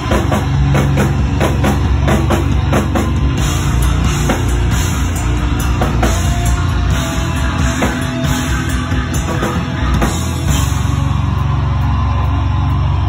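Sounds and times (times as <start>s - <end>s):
distorted electric guitars: 0.0s - 13.0s
drum kit: 0.0s - 13.0s.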